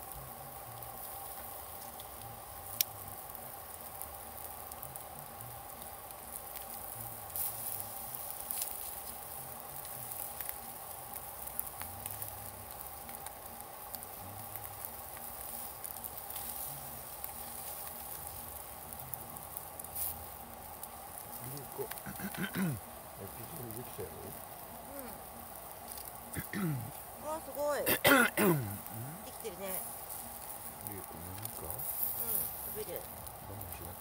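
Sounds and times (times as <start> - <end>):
chicken sizzling over fire: 0.0 - 34.0
fire crackles and pops: 0.0 - 34.0.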